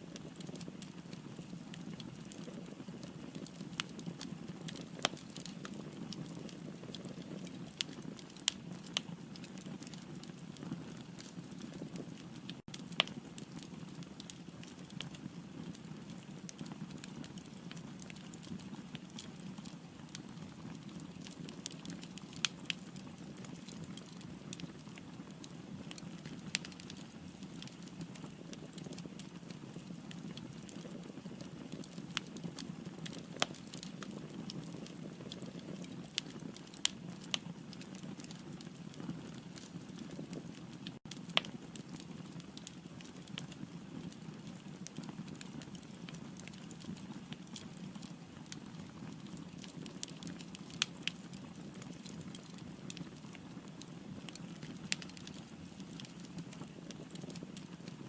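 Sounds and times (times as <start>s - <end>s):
fire burning: 0.0s - 58.0s
firewood crackling and popping: 0.0s - 58.0s.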